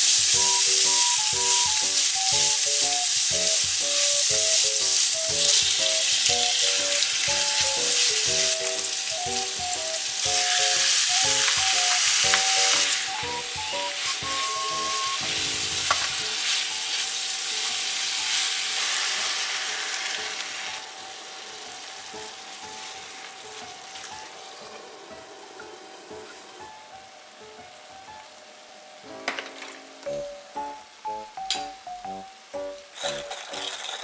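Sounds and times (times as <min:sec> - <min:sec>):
meat sizzling in a frying pan: 0:00.0 - 0:34.0
simple background melody: 0:00.0 - 0:34.0.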